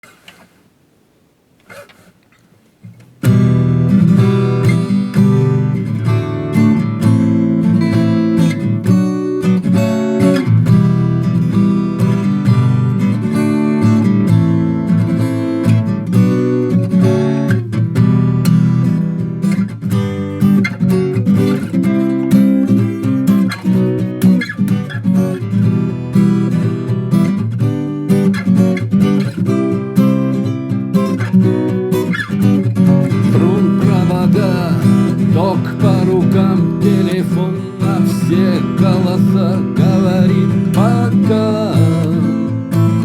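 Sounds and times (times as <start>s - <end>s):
acoustic guitar strumming: 1.6s - 43.0s.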